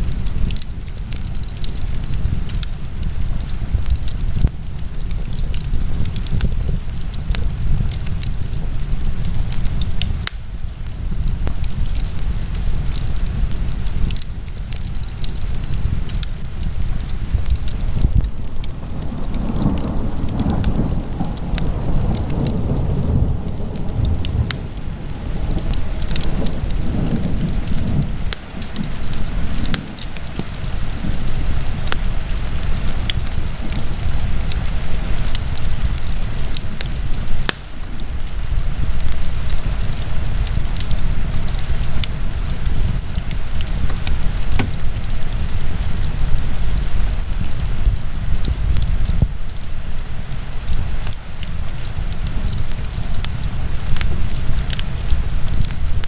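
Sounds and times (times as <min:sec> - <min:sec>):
fire crackles and pops: 0:00.0 - 0:56.0
wood fire burning: 0:00.0 - 0:56.0.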